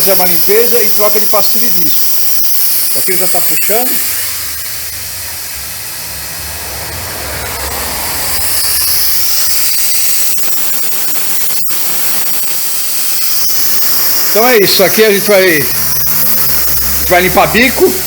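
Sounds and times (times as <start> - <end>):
vacuum pump hissing: 0.0 - 18.0.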